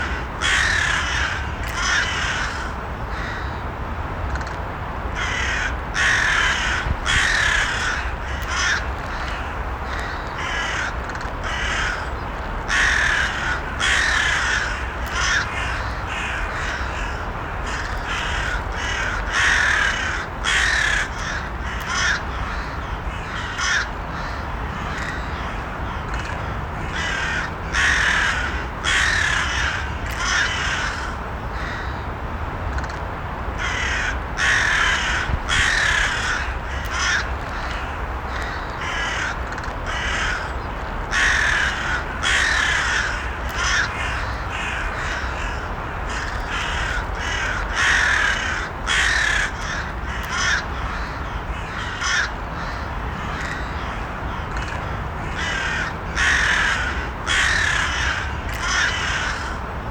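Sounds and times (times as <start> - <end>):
crows cawing: 0.0 - 3.6, 5.2 - 32.0, 33.6 - 59.8
low background noise: 0.0 - 59.9.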